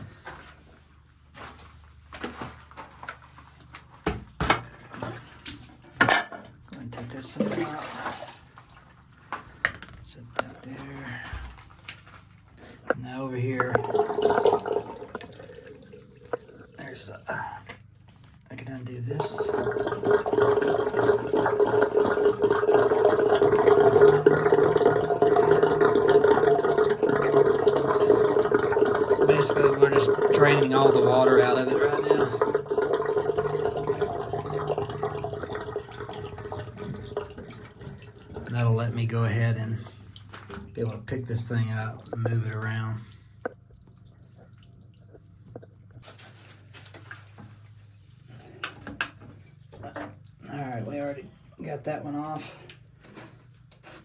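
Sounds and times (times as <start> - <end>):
water draining from pump housing: 4.8 - 51.2.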